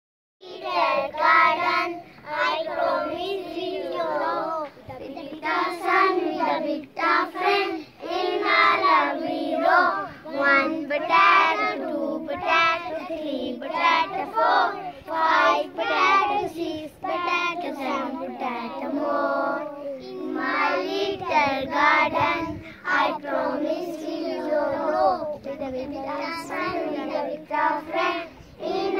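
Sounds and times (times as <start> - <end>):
children singing in unison: 0.4 - 28.9.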